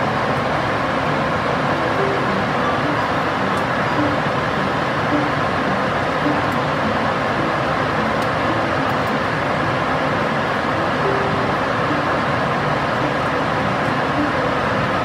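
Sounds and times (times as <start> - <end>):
airliner cabin engine rush: 0.0 - 15.0.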